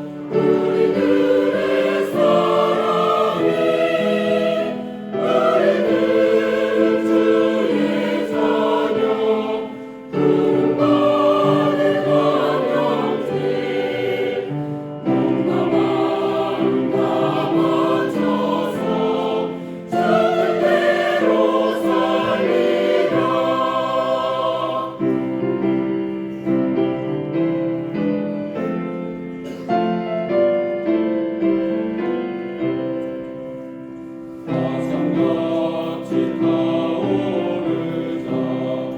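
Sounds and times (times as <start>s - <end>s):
church choir singing a hymn: 0.0s - 38.9s.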